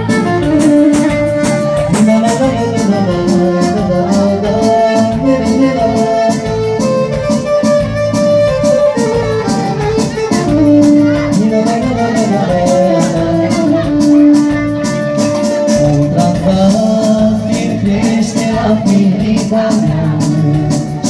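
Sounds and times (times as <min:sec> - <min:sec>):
electronic keyboard melody with beat: 0:00.0 - 0:21.0.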